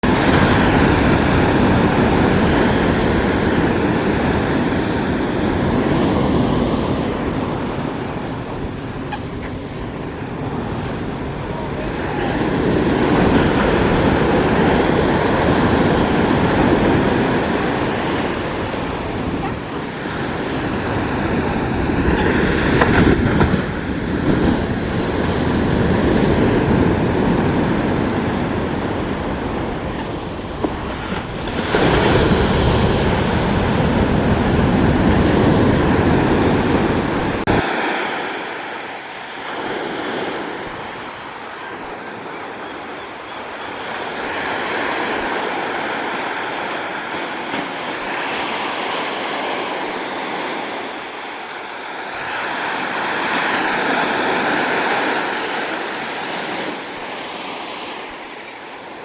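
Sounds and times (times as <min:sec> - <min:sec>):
ocean surf: 0:00.0 - 0:59.0
wind buffeting microphone: 0:00.0 - 0:59.0.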